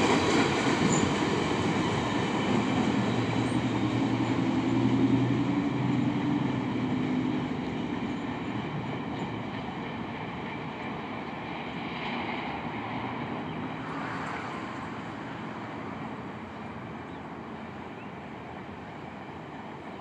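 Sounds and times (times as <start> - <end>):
freight train wheels rumbling on rails: 0.0 - 20.0.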